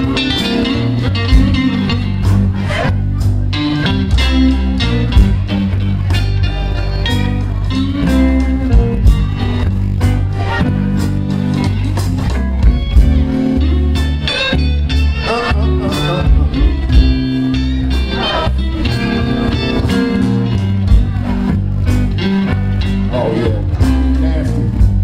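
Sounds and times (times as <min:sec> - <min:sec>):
bass guitar: 0:00.0 - 0:25.0
drums: 0:00.0 - 0:25.0
electric guitar lead: 0:00.0 - 0:25.0.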